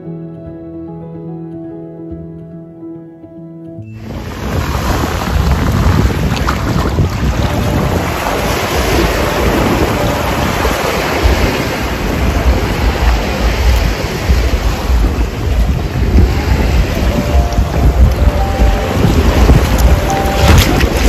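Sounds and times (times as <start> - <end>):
rushing sea water: 3.9 - 21.0
wind buffeting microphone: 3.9 - 21.0.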